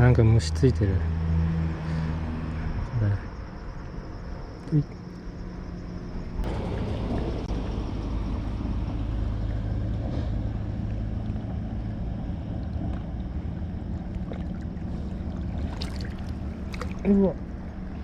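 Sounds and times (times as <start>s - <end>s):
low motor drone: 0.8s - 18.0s.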